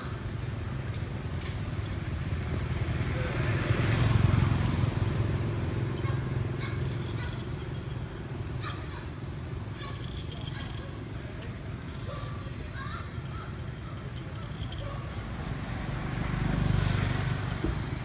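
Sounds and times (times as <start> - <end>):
motor vehicle passing by: 0.3 - 11.7, 14.4 - 18.0.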